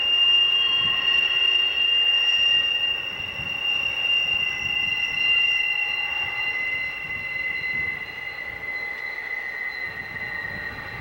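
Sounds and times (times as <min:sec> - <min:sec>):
train wheels squealing on rail: 0:00.0 - 0:11.0.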